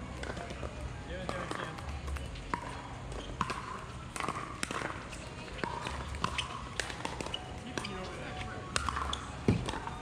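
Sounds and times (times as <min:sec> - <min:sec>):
ball bouncing on hard court: 0:00.2 - 0:00.6, 0:01.2 - 0:10.0
paddles hitting plastic ball: 0:00.2 - 0:10.0.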